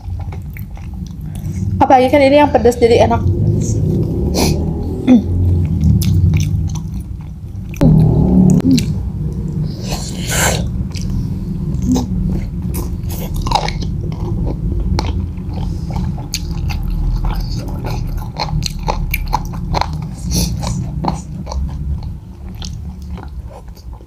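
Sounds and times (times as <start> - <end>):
people chewing crunchy food: 0.0 - 1.8, 3.5 - 7.8, 9.9 - 24.0.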